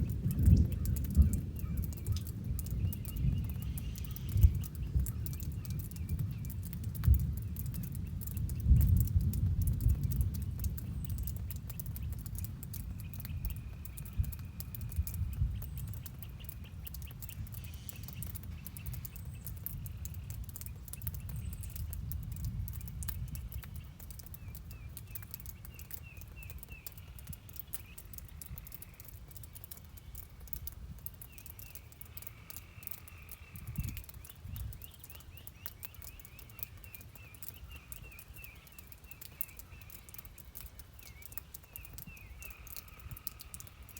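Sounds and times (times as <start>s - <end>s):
birds chirping: 0.0s - 43.9s
rain pattering: 0.0s - 43.9s.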